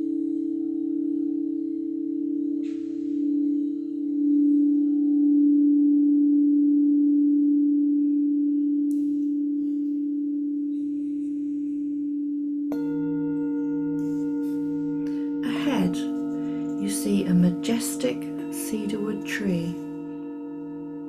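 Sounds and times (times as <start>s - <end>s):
singing bowl low ringing: 0.0s - 21.0s.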